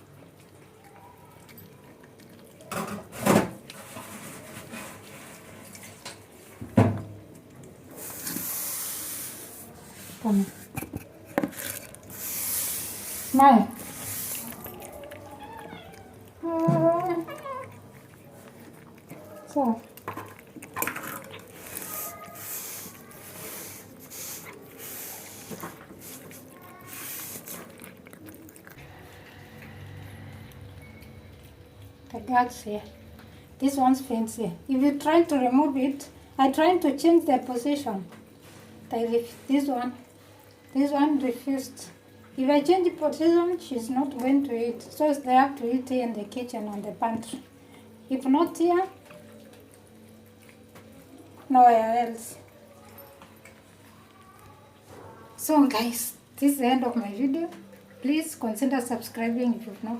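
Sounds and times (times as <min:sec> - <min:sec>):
cats chewing food: 0:00.0 - 0:33.6, 0:38.0 - 0:44.4, 0:46.0 - 0:55.4, 0:56.1 - 0:59.9.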